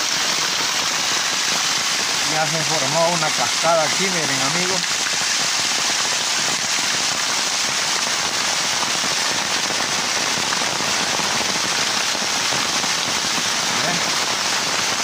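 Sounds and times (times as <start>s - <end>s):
heavy rain: 0.0s - 15.0s
water cascading and splashing: 0.0s - 15.0s.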